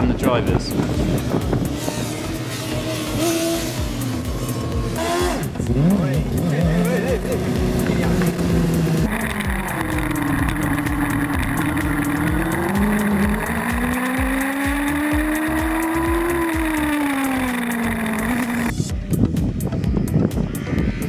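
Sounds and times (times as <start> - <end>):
low music beat: 0.0 - 21.0
race car engine: 0.0 - 21.0.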